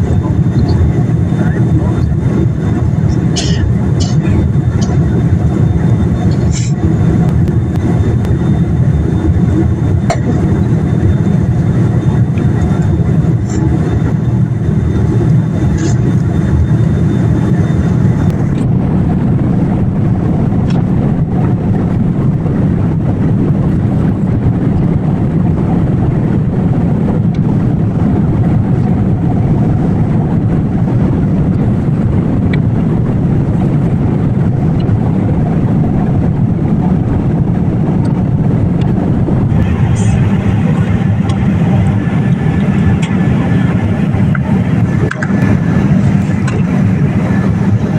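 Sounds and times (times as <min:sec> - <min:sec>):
airliner cabin engine noise: 0:00.0 - 0:47.9.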